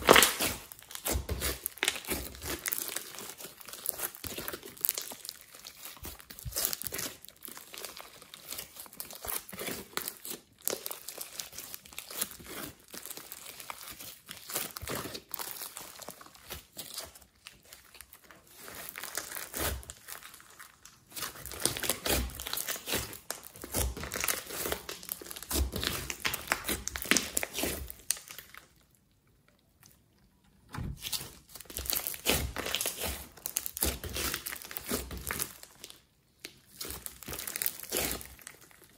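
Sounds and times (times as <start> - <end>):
slime squished by hand: 0.0 - 30.1, 31.0 - 38.9.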